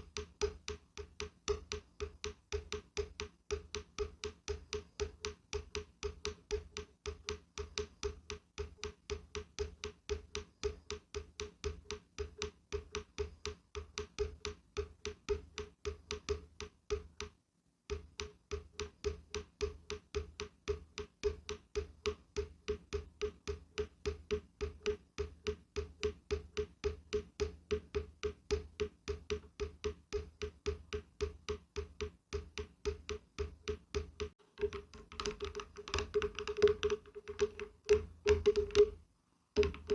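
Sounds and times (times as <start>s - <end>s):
tapping on hollow wood: 0.0s - 39.0s, 39.6s - 39.9s.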